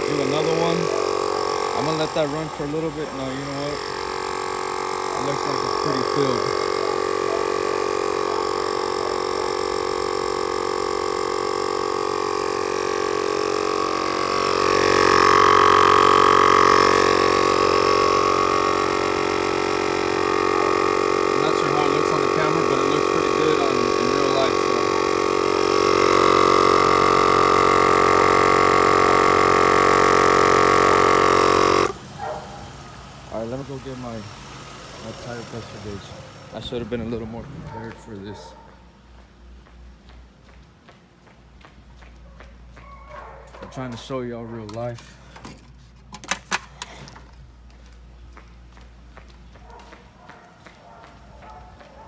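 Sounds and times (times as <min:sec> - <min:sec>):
tire inflator compressor running: 0:00.0 - 0:40.7, 0:42.7 - 0:52.0.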